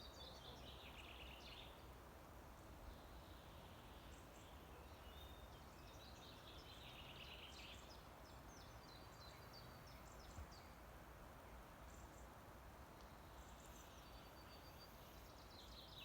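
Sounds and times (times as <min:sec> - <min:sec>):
faint bird song chirps: 0:00.0 - 0:16.0.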